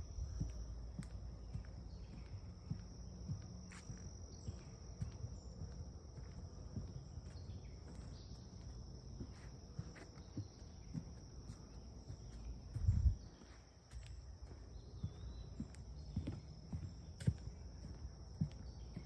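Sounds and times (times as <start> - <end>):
crickets chirring: 0.0 - 19.0
soft footsteps: 0.0 - 19.0.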